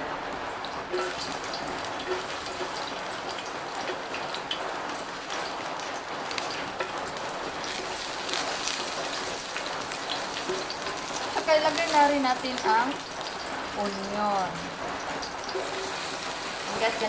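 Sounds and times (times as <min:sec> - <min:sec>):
garlic sizzling in oil: 0:00.2 - 0:17.0.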